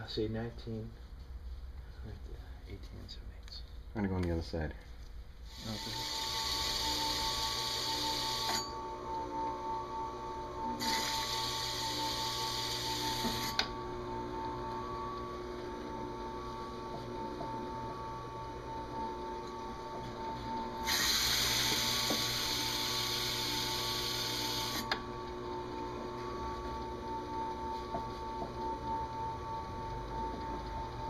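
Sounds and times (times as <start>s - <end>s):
drill press whining: 5.5s - 31.0s.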